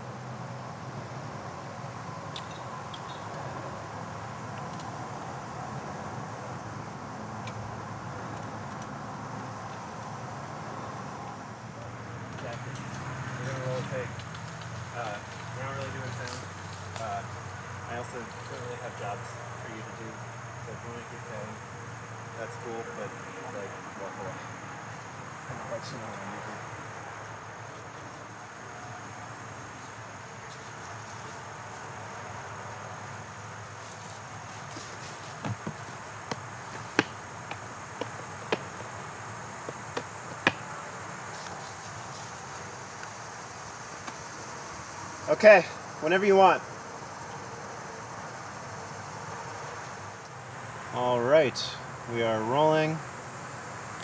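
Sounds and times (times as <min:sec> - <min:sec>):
distant traffic rumble: 0:00.0 - 0:54.0.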